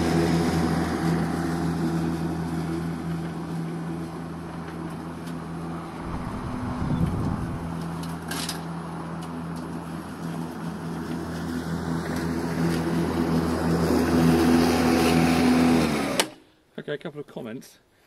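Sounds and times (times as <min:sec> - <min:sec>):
lawn mower cutting grass: 0:00.0 - 0:16.4.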